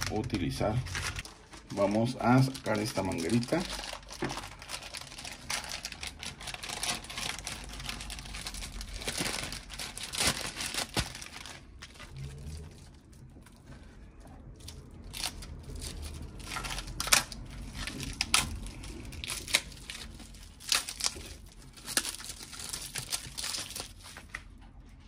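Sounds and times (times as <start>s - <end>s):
plastic packaging crinkling and tearing: 0.0s - 25.0s.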